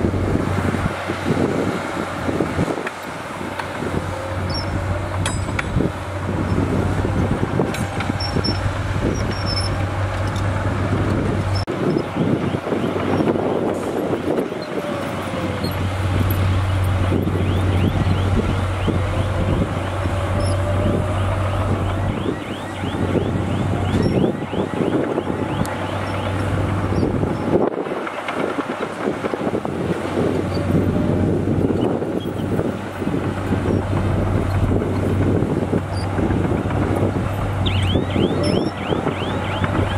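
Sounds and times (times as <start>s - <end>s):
bulldozer engine pushing dirt: 0.0s - 39.9s
dump truck tipping earth: 0.0s - 39.9s.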